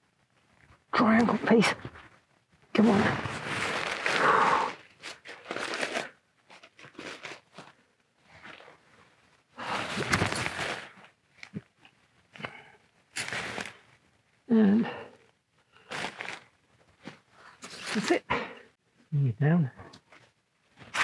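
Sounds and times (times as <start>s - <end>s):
tent fabric rustling and crinkling: 0.3s - 14.4s, 15.7s - 18.2s, 20.1s - 21.0s.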